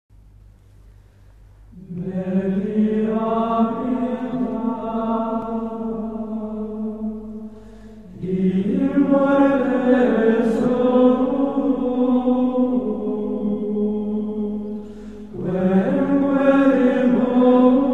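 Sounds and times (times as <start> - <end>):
voices chanting long notes: 1.8 - 17.9.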